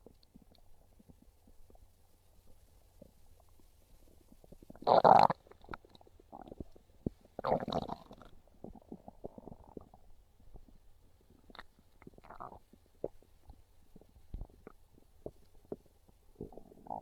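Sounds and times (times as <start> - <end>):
faint clicks and gurgles: 0.0 - 17.0
stomach growling: 2.5 - 17.0.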